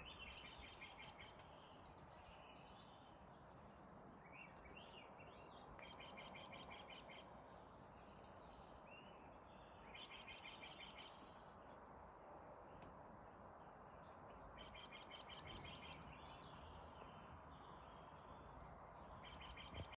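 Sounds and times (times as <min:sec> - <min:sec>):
bird chirps: 0:00.0 - 0:13.4, 0:14.0 - 0:20.0.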